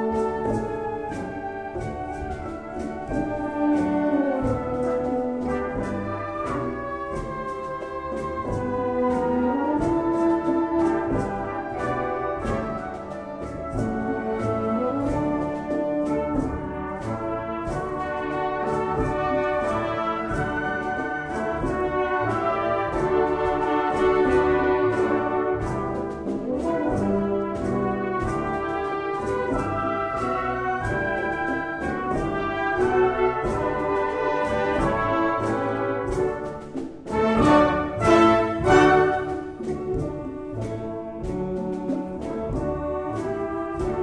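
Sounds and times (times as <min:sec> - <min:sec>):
brass chords and melody: 0:00.0 - 0:44.0
percussion beat: 0:00.0 - 0:44.0.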